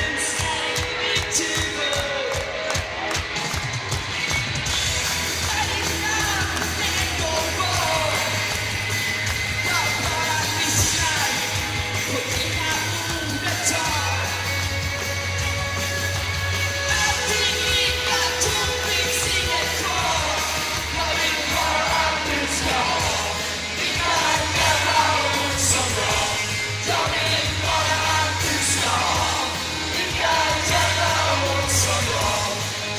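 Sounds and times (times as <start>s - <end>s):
person singing lead vocals: 0.0s - 3.0s, 5.4s - 8.6s, 9.5s - 14.7s, 16.7s - 32.9s
live rock band playing: 0.0s - 32.9s.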